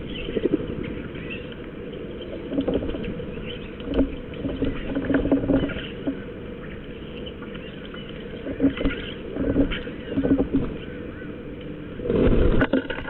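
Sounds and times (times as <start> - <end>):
birds pecking at carcass: 0.0 - 13.0.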